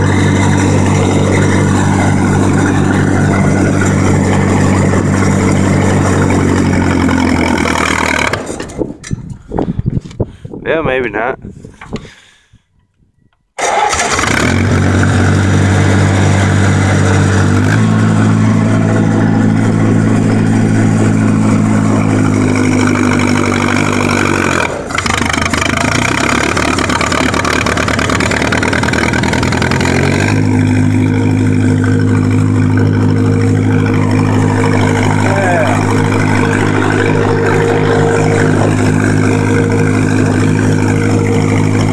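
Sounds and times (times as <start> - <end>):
tractor engine running: 0.0 - 10.6, 13.6 - 41.9.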